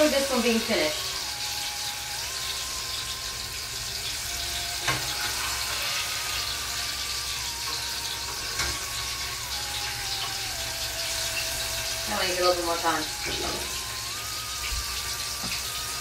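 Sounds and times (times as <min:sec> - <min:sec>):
batter deep-frying in oil: 0:00.0 - 0:16.0.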